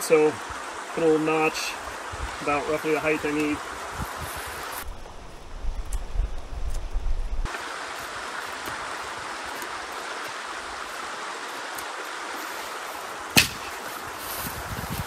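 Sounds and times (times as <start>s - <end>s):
shallow creek rushing: 0.0s - 5.4s, 7.4s - 15.0s.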